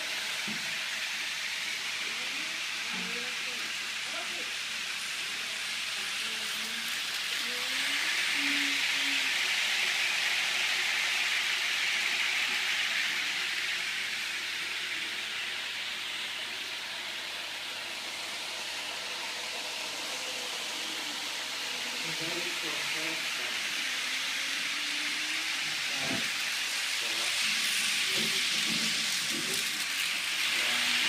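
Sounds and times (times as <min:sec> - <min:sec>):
train rushing: 0:05.0 - 0:31.0.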